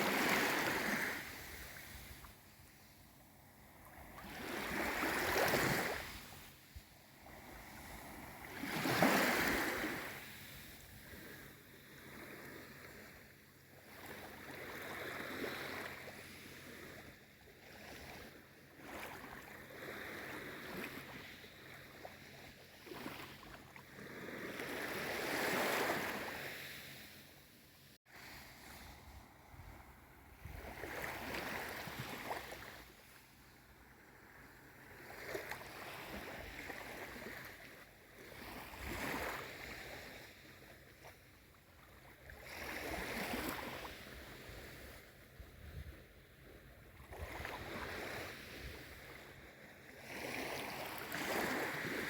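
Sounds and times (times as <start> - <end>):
gentle sea waves washing in: 0.0 - 52.0.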